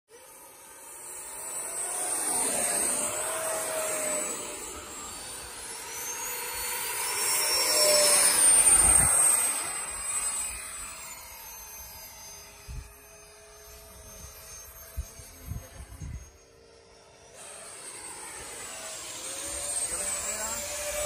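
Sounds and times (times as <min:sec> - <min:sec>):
model jet whining past: 0:00.1 - 0:21.0.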